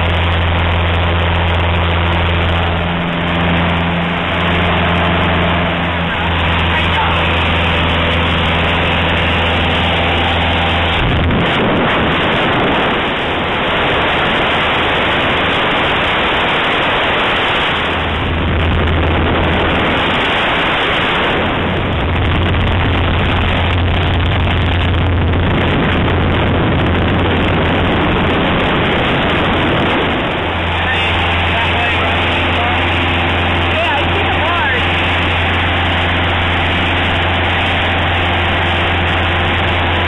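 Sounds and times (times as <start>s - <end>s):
air rushing over airframe: 0.0s - 40.0s
aircraft engine drone: 0.0s - 40.0s.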